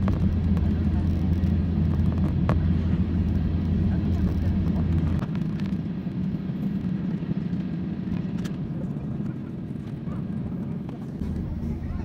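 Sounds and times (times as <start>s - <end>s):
jet engines idling in cabin: 0.0s - 12.0s.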